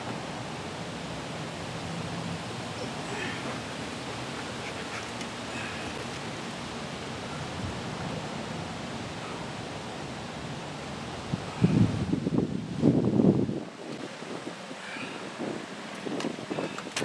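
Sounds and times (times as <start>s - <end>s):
river water: 0.0s - 17.0s
wind buffeting microphone: 0.0s - 17.0s
wind hiss: 0.0s - 17.0s.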